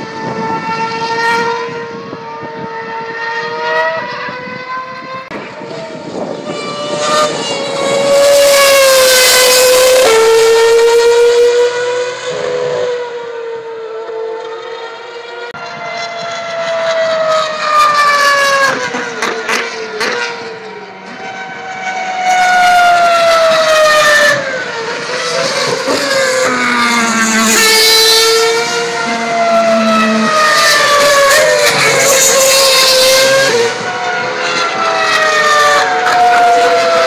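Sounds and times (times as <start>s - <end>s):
racing cars screaming past: 0.1s - 37.0s.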